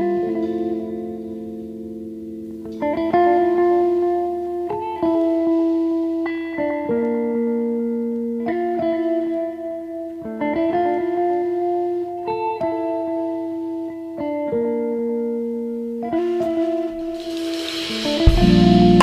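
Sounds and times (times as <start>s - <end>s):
plucked guitar chords: 0.0s - 19.0s.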